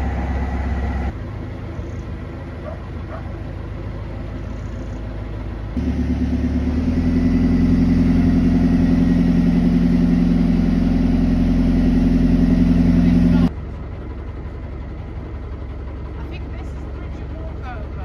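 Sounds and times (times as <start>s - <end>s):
boat diesel engine chugging: 0.0s - 18.0s.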